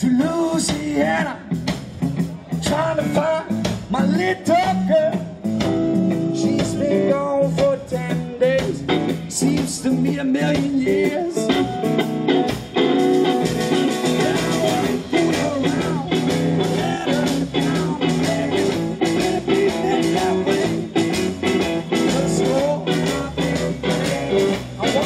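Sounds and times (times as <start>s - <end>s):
blues-rock band playing: 0.0s - 25.0s
steady drum beat: 0.0s - 25.0s.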